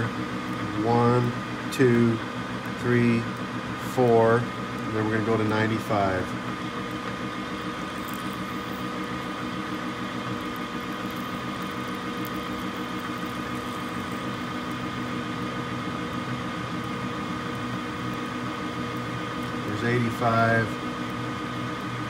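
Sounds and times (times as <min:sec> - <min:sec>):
air conditioner fan: 0:00.0 - 0:22.0
metal lathe running: 0:00.0 - 0:22.0.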